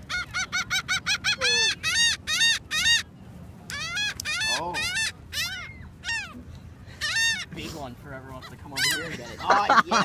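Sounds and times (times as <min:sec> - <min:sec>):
seagulls calling: 0:00.0 - 0:10.0.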